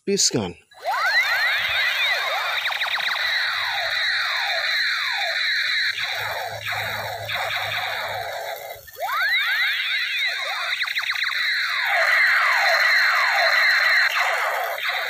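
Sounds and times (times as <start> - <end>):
toy laser gun zaps: 0.8 - 15.0.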